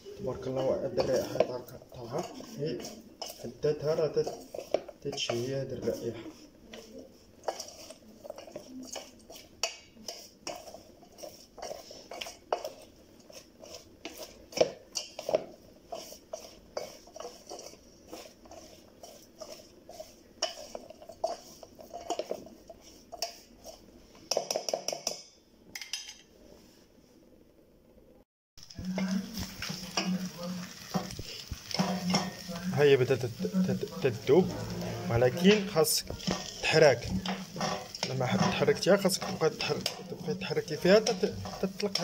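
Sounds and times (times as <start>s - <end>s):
utensil stirring in pot: 0.0s - 25.3s, 28.6s - 42.0s
clinks and scrapes against pot: 0.4s - 26.3s, 28.8s - 42.0s.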